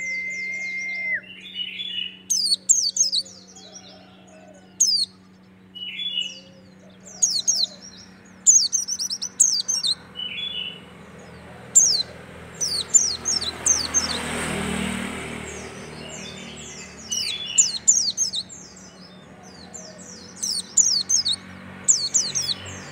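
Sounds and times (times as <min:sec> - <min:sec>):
bird chirping: 0:00.0 - 0:14.4, 0:15.3 - 0:22.9.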